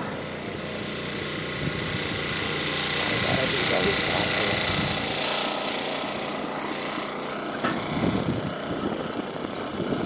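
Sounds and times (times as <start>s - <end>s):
reciprocating saw cutting steel: 0.0s - 9.0s.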